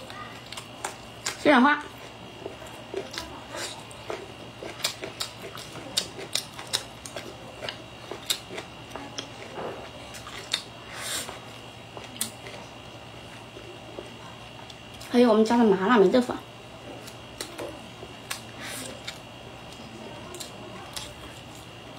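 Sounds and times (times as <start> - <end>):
chewing crunchy food: 0.0 - 15.1, 16.8 - 21.9.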